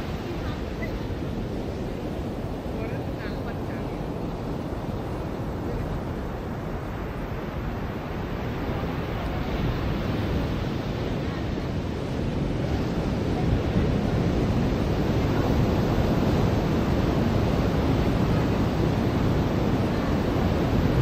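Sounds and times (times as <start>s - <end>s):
ocean surf on beach: 0.0s - 21.0s.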